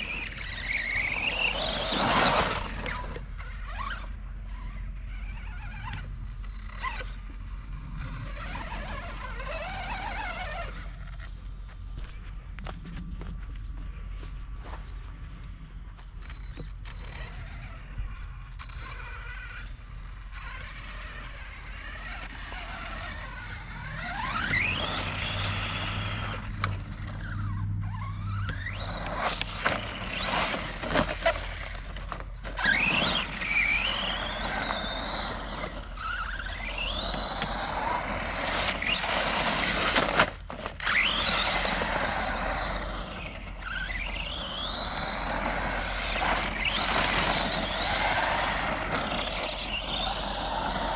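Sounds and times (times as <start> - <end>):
electric motor whining: 0.0 - 11.3, 16.5 - 50.9.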